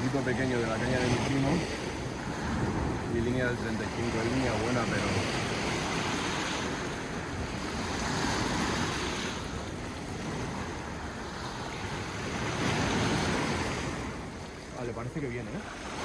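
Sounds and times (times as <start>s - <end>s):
sea surf washing on shore: 0.0s - 16.0s
wind buffeting microphone: 0.0s - 16.0s.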